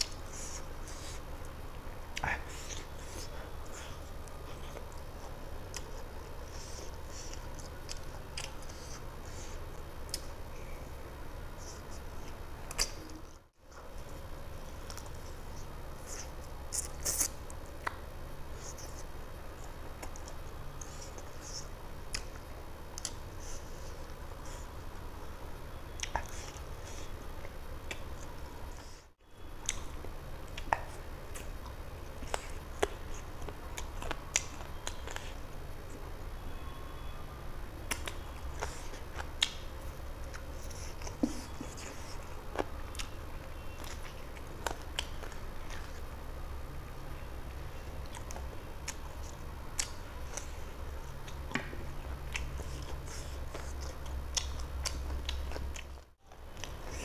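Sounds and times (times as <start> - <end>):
person chewing with wet smacks: 0.0 - 10.9, 11.5 - 37.1, 37.7 - 46.6, 47.2 - 57.0
steady low hum: 0.0 - 57.0.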